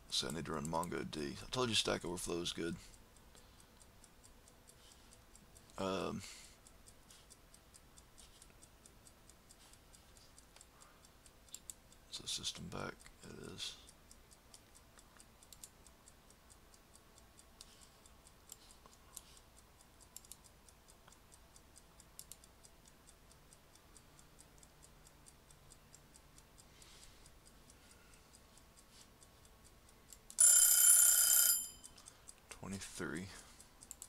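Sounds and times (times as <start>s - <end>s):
faint ticking: 0.0s - 34.0s.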